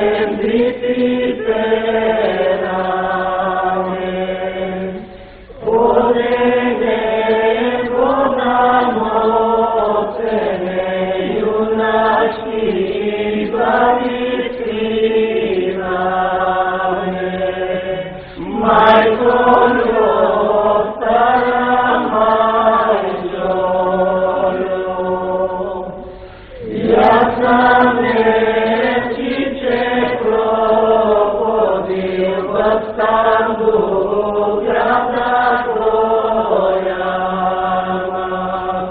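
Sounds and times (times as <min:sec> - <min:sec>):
voices singing a chant: 0:00.0 - 0:38.9.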